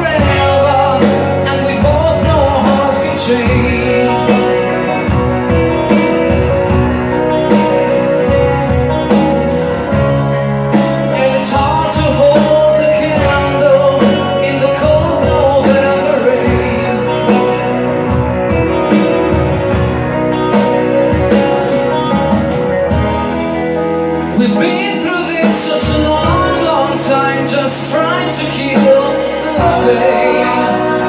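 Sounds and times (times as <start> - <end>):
person singing lead vocal: 0.0 - 8.8, 9.5 - 19.9, 21.5 - 31.0
rock band playing: 0.0 - 31.0.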